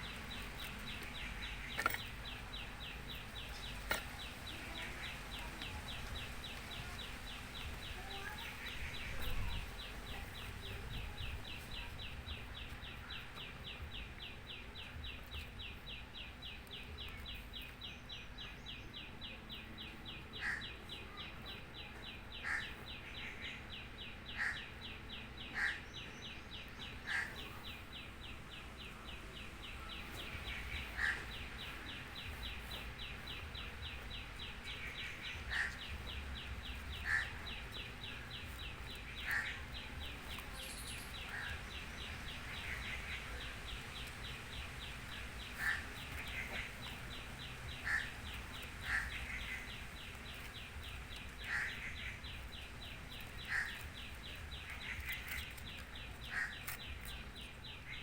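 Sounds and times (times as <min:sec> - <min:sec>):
birds chirping rapidly: 0:00.0 - 0:58.0.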